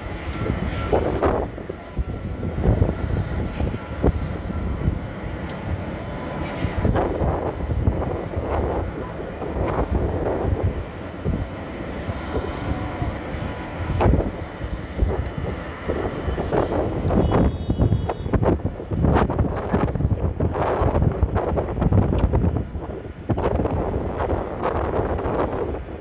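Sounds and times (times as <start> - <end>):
jet engines rumbling with whine: 0.0 - 26.0
wind buffeting microphone: 0.0 - 26.0.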